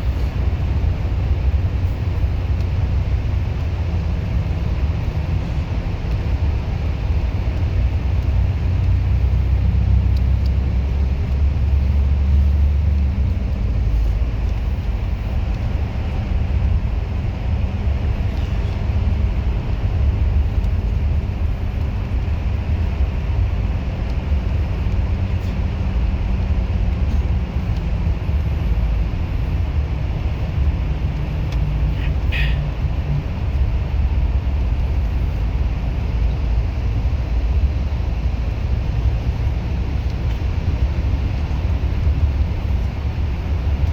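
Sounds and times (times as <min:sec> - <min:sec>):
bus engine and road noise: 0:00.0 - 0:43.9.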